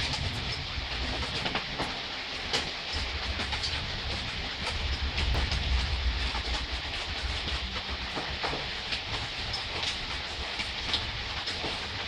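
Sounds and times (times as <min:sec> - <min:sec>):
gentle rain: 0:00.0 - 0:12.0
raindrops tapping: 0:00.0 - 0:12.0.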